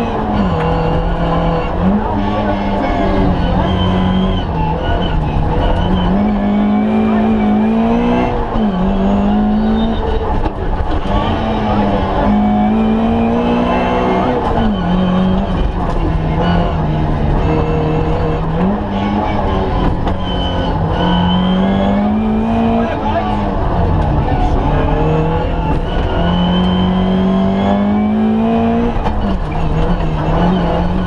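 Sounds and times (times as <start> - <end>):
car engine revving high: 0.0 - 31.0
road and tyre noise: 0.0 - 31.0.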